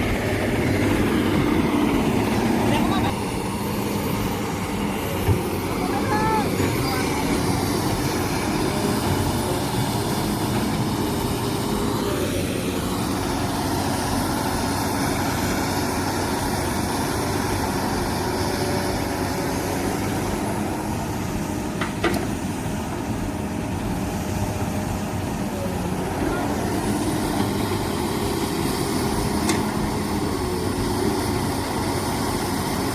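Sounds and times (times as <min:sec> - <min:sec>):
diesel machinery running: 0:00.0 - 0:32.9.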